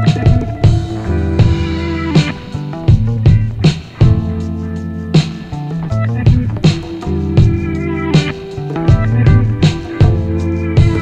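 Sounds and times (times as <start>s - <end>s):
upbeat music with bass and drums: 0.0s - 11.0s.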